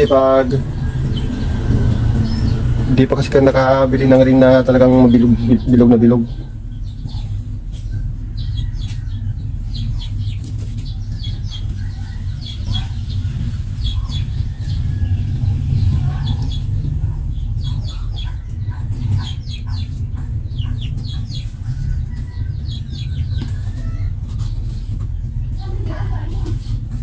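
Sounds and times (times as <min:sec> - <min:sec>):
low rumble: 0:00.0 - 0:27.0
small birds chirping: 0:00.0 - 0:27.0.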